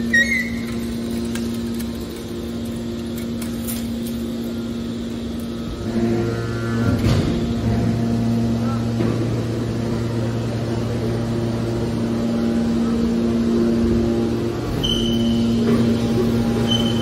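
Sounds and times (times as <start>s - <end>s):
deeper hum: 0.0s - 17.0s
hydraulic power unit humming: 0.0s - 17.0s.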